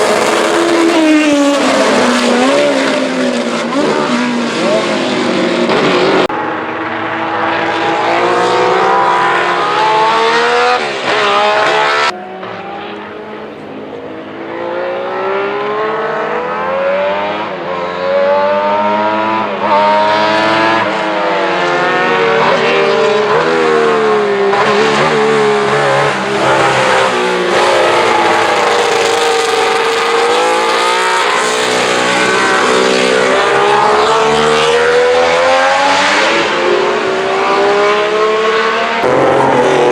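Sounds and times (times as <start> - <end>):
racing engine revving: 0.0 - 39.9.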